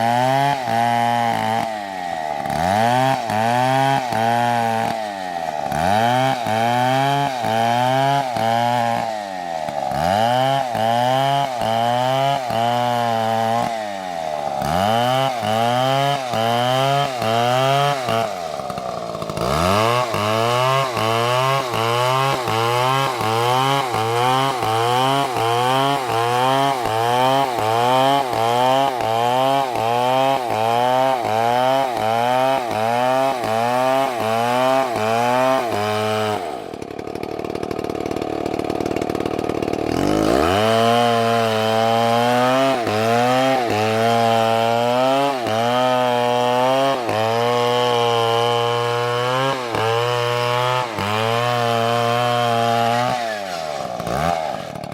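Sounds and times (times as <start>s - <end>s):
chainsaw cutting into tree: 0.0s - 54.9s.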